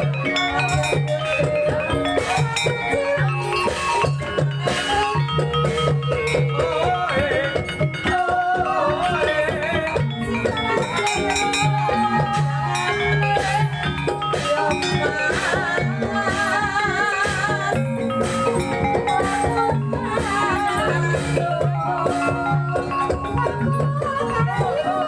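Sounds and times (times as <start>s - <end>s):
drum strokes: 0.0s - 25.0s
gamelan ringing struck notes: 0.0s - 25.0s
person singing wavering melody: 0.0s - 25.0s.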